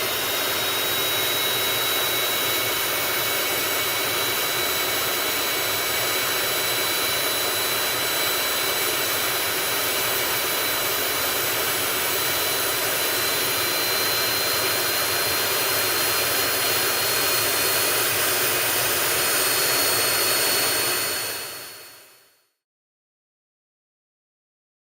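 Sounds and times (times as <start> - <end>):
jet engine running: 0.0 - 22.2.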